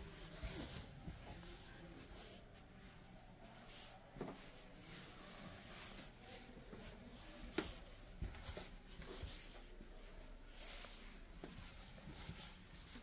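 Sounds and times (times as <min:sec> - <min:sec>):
rustling and handling noise: 0:00.0 - 0:13.0.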